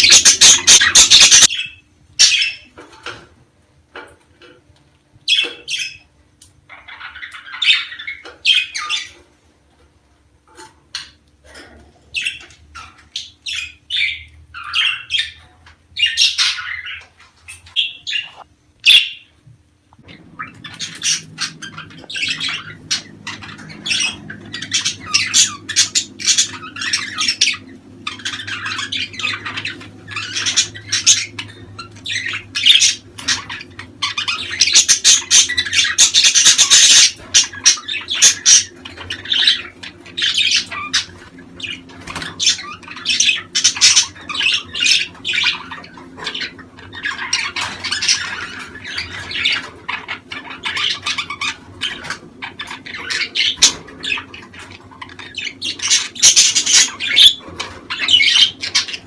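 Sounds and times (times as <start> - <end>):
budgerigars chattering: 0.0 - 2.7, 6.7 - 9.2, 12.1 - 19.3, 20.0 - 59.0.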